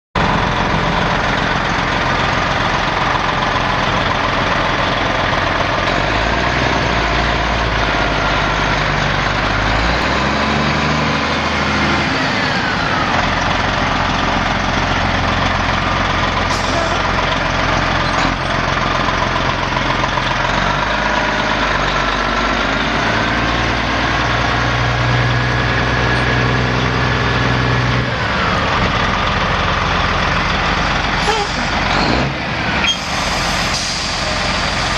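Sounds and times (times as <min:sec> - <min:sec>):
diesel truck engine idling: 0:00.2 - 0:10.4, 0:11.0 - 0:34.9.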